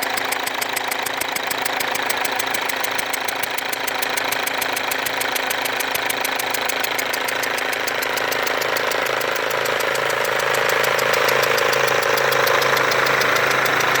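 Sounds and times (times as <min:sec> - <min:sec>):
diesel engine idling: 0:00.0 - 0:14.0
rapid ticking: 0:00.0 - 0:14.0.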